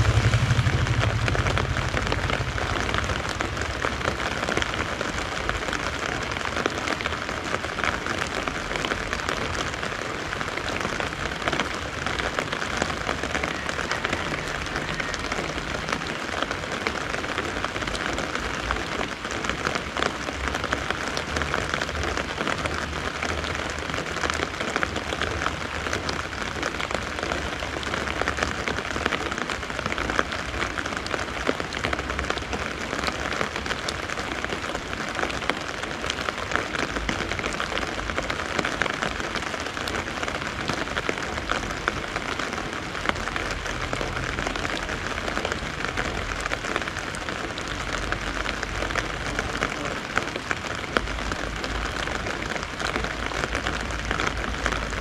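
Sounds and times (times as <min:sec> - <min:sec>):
rain on wet leaves: 0:00.0 - 0:55.0
rain pattering on an umbrella: 0:00.0 - 0:55.0.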